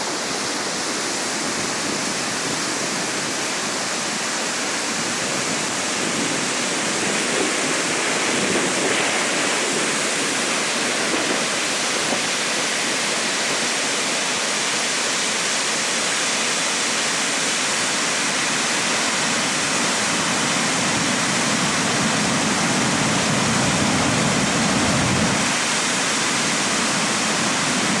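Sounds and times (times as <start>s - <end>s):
river torrent rushing: 0.0s - 28.0s.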